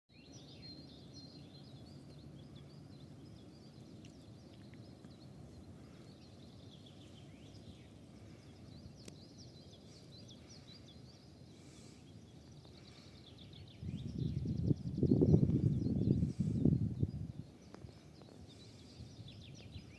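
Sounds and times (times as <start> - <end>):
small birds chirping: 0.1 - 19.9.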